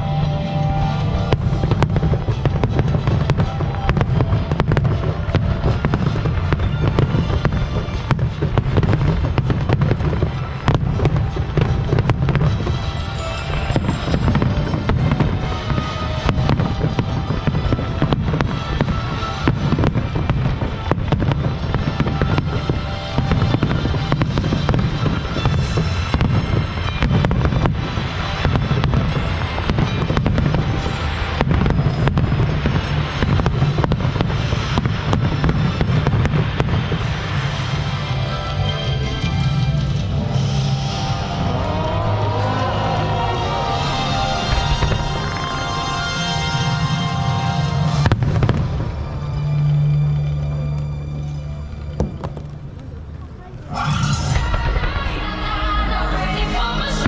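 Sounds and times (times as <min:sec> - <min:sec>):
fireworks bangs and crackles: 0:00.0 - 0:57.0
low booming: 0:00.0 - 0:57.0
music: 0:00.0 - 0:57.0.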